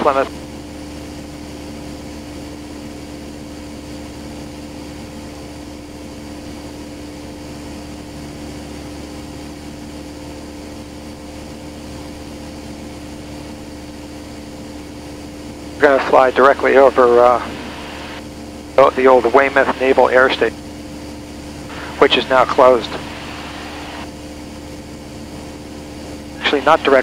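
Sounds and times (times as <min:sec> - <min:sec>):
aircraft engine and propeller droning: 0:00.0 - 0:27.0.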